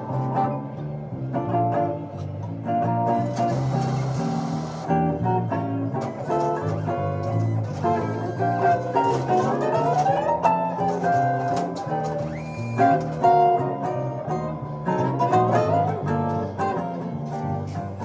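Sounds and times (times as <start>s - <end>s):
jazz guitar lines: 0.0s - 18.0s.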